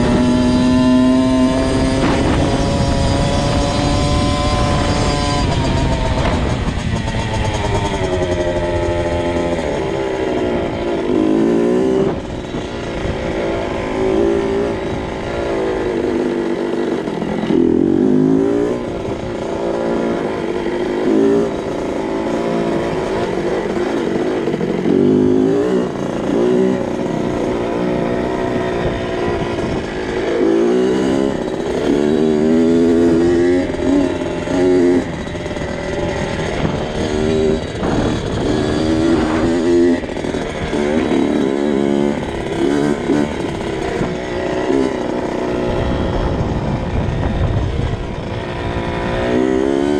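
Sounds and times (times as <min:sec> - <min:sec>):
two-stroke motorcycle engine revving: 0:00.0 - 0:49.9.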